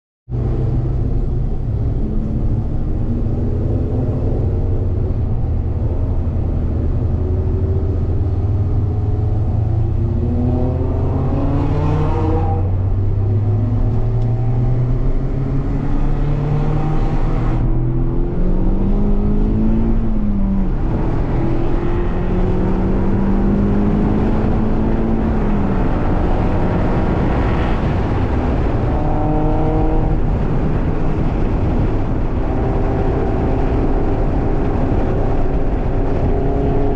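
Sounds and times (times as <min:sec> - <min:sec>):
car engine accelerating through gears: 0:00.3 - 0:36.9.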